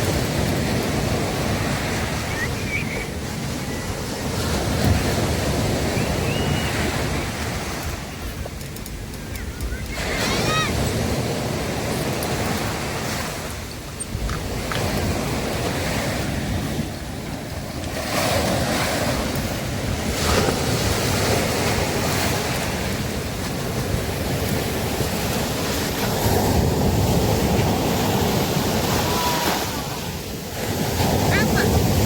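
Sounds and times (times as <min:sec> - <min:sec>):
surf breaking on a beach: 0:00.0 - 0:32.0
wind on microphone: 0:00.0 - 0:32.0.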